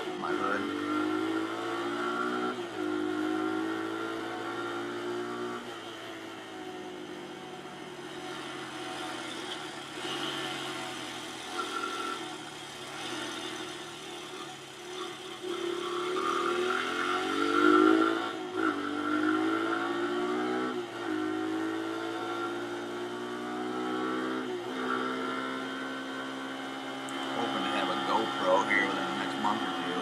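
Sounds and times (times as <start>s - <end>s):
small motorcycle engine accelerating: 0.0s - 6.1s, 8.2s - 30.0s.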